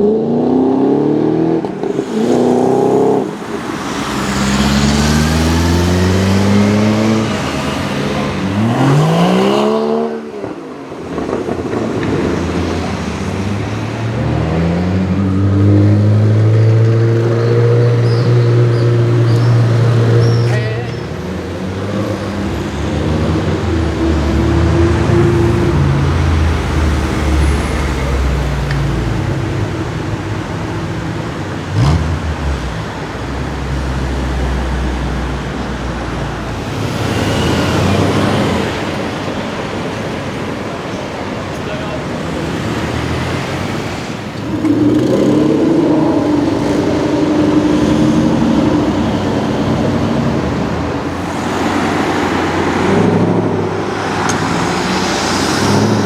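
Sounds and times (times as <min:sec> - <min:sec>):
car engines in traffic: 0:00.0 - 0:56.0.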